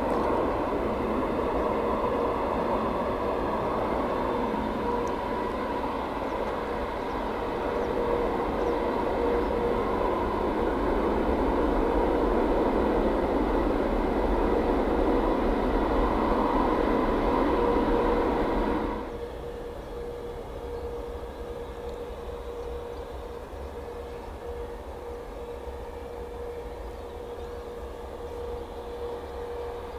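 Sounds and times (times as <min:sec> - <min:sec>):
jet engines rushing and whining: 0:00.0 - 0:29.9.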